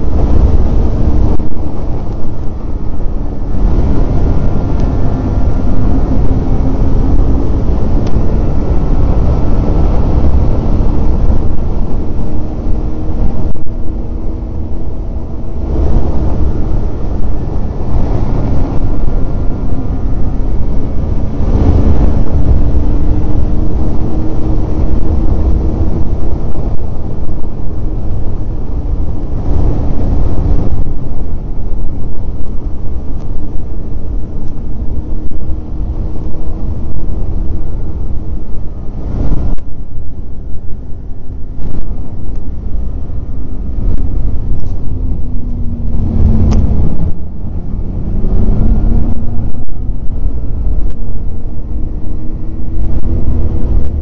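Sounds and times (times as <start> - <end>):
snowmobile engine running: 0.0 - 39.6, 41.2 - 54.0
heavy low rumble of sled: 0.0 - 54.0.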